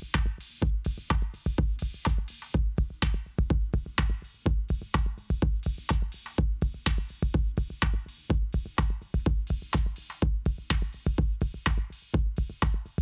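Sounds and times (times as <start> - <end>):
bright hi-hats: 0.0 - 13.0
electronic kick drum: 0.0 - 13.0.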